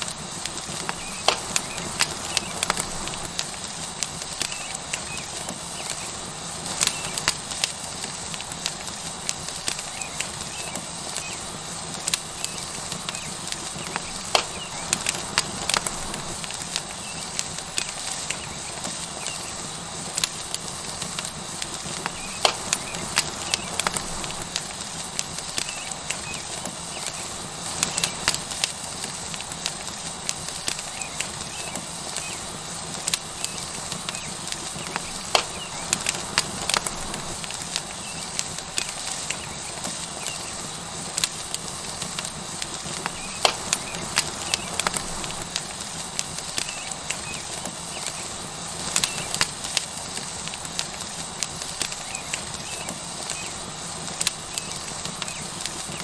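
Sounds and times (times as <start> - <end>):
steak sizzling on hot stone: 0.0 - 56.0
wood fire crackling: 0.0 - 56.0.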